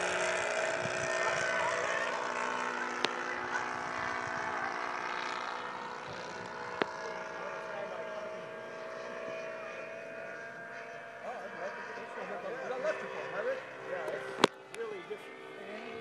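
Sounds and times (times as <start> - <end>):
model airplane engine whine: 0.0 - 16.0.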